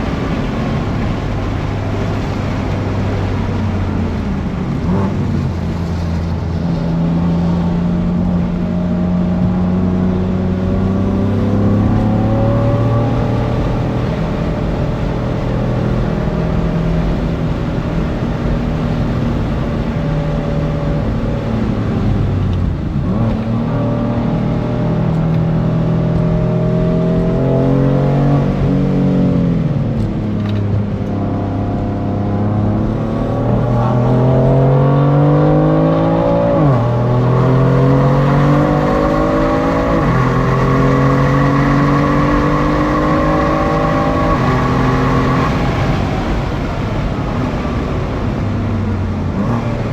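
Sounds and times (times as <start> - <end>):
car engine accelerating hard: 0.0 - 49.9.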